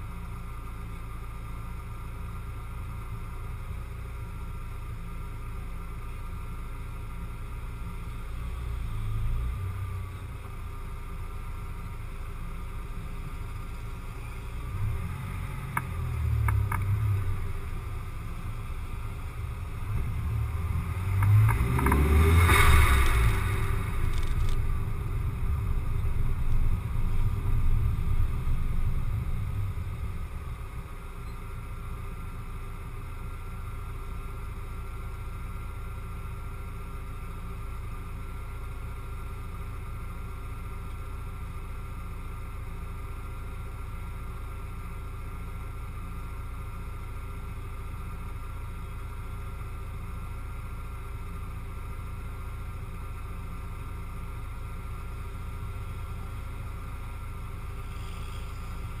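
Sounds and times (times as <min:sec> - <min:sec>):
car engine and road noise: 0:00.0 - 0:59.0
car idling hum: 0:00.0 - 0:59.0.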